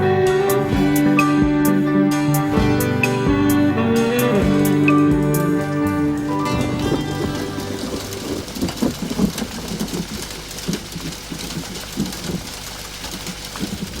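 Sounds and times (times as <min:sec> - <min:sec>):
rain falling: 0:00.0 - 0:14.0
low irregular rumbles: 0:02.6 - 0:14.0.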